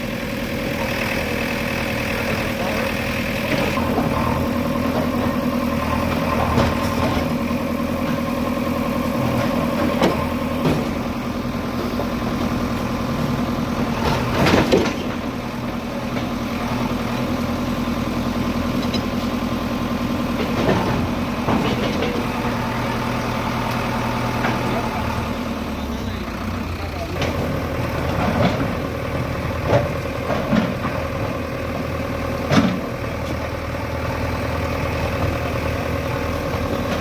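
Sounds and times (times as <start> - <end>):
heavy machine engine running: 0.0 - 37.0.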